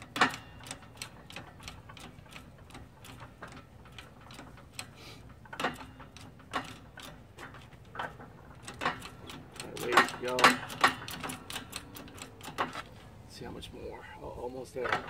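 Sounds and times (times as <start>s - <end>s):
jack pump handle clicks: 0.0s - 12.9s.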